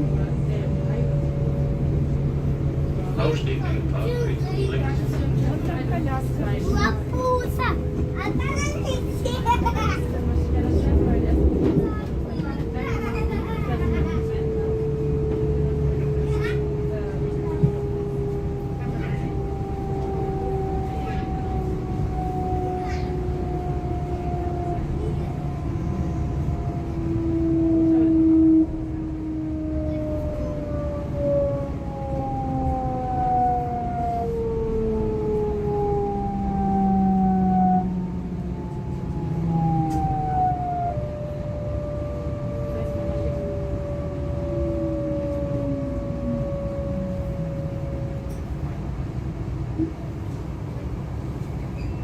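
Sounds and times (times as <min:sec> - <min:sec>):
electric train motors whining: 0:00.2 - 0:51.8.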